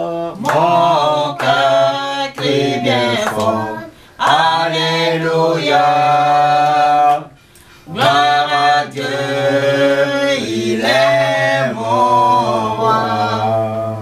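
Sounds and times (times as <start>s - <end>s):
unaccompanied voices singing: 0.0s - 14.0s.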